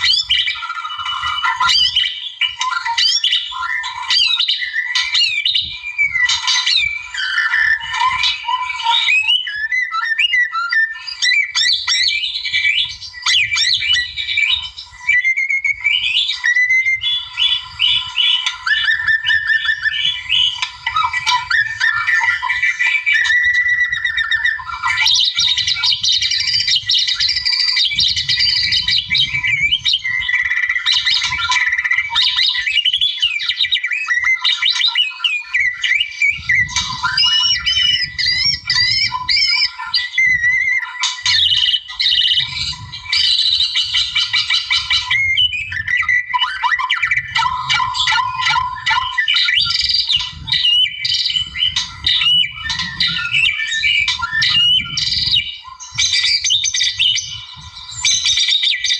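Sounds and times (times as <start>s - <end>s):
bird singing: 0.0s - 58.9s.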